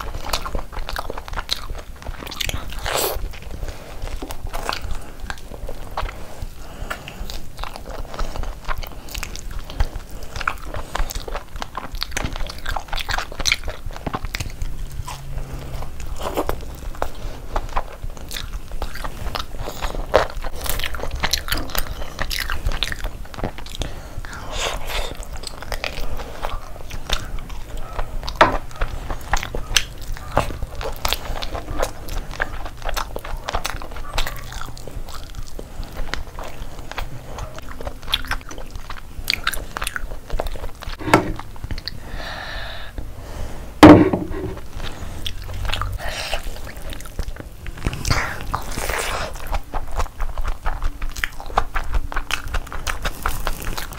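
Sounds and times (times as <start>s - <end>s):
wet chewing and lip smacking: 0.0s - 43.1s, 44.4s - 53.9s.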